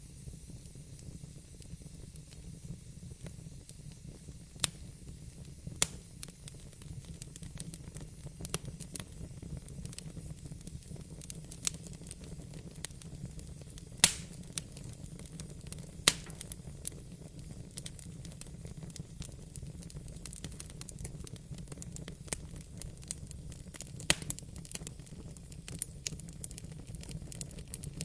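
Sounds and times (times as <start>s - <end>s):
fire crackling snaps: 0.0s - 28.0s
low fire rumble: 0.0s - 28.0s
loud fire pops: 0.5s - 28.0s.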